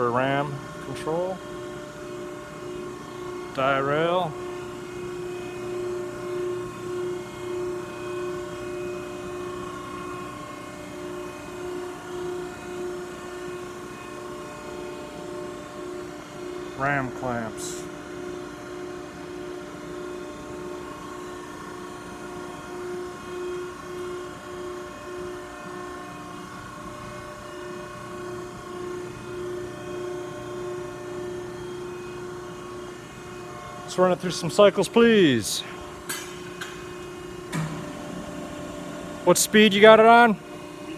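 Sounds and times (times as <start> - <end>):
hydraulic machine humming: 0.0 - 40.9.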